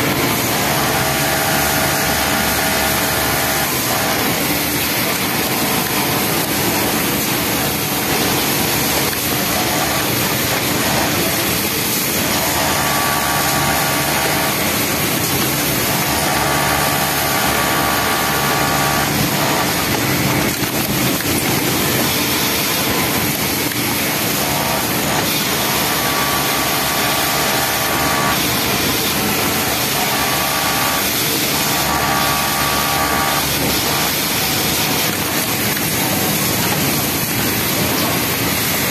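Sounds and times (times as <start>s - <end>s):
sewing machine whine: 0.0s - 38.9s.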